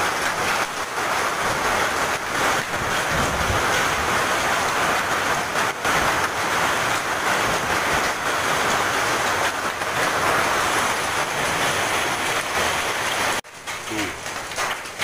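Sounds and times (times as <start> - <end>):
hail falling: 0.0 - 15.0
heavy rain: 0.0 - 15.0.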